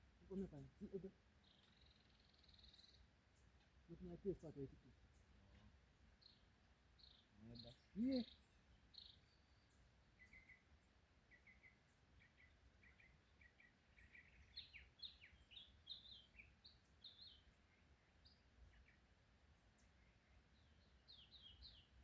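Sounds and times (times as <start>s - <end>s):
bird calls: 0.0s - 22.0s.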